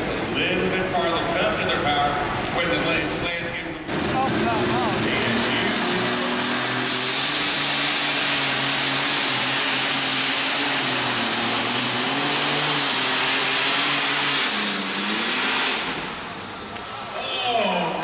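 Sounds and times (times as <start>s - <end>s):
tractor engine running flat out: 2.8s - 18.0s.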